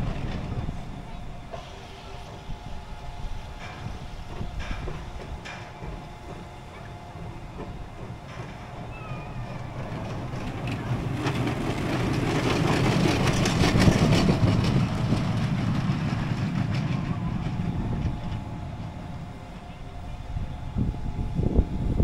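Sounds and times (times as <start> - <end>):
roller coaster wheels rumbling: 0.0 - 22.0.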